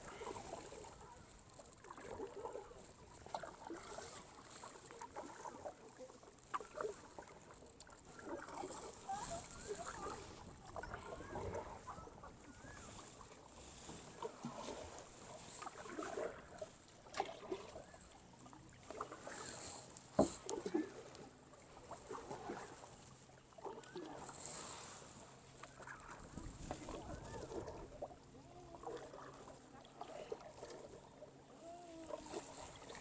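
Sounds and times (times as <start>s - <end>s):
paddle splashing through water: 0.0s - 33.0s.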